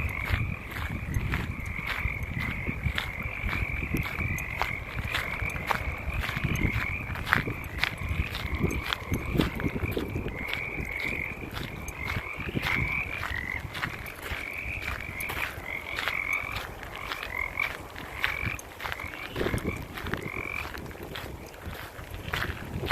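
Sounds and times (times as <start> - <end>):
frogs croaking: 0.0 - 22.9.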